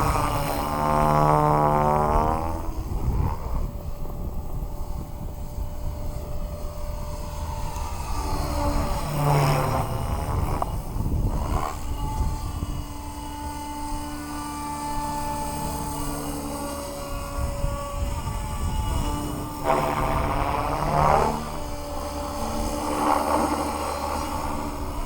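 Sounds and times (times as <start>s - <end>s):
electric helicopter rotor and motor: 0.0s - 25.0s.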